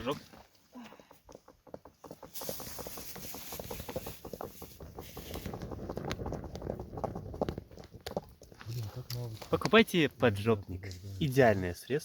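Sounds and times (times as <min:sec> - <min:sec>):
campfire crackling and popping: 0:01.3 - 0:11.6.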